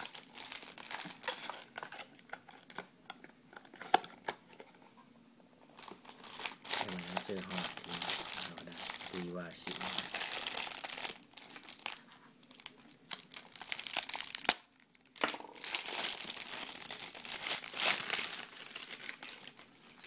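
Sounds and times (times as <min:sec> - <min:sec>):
plastic and paper crinkling: 0:00.0 - 0:05.0, 0:05.7 - 0:20.0.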